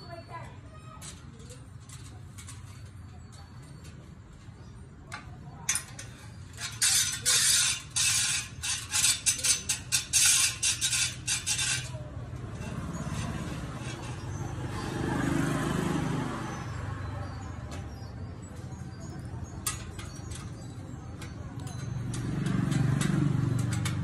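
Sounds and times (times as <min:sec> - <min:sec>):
wheel rim scraping steel bar: 0:00.9 - 0:24.0.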